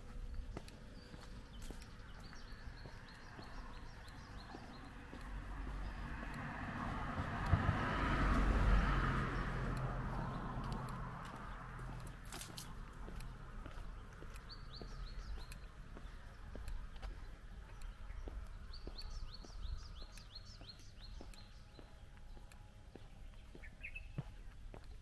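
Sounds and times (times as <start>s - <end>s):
faint footsteps: 0.0s - 25.0s
songbird chirping: 0.0s - 25.0s.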